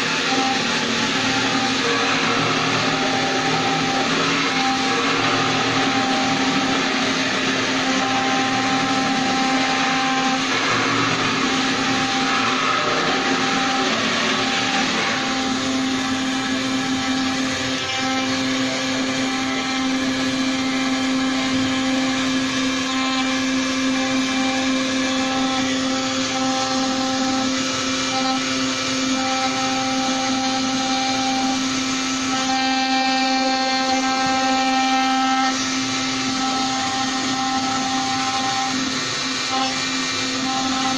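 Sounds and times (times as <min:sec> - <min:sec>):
cnc router spindle whine: 0:00.0 - 0:40.9
hiss of wood cutting: 0:00.0 - 0:40.9.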